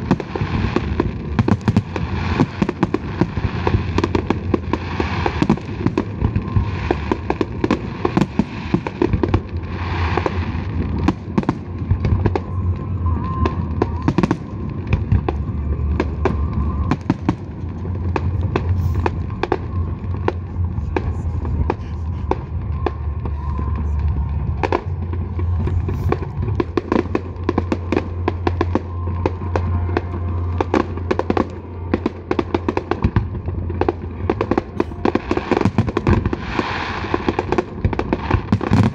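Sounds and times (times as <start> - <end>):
fireworks bangs and crackling: 0.0 - 38.9
low rumble: 0.0 - 38.9.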